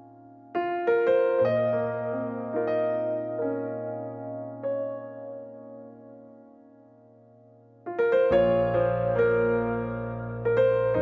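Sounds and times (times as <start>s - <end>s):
piano notes ringing: 0.0s - 11.0s.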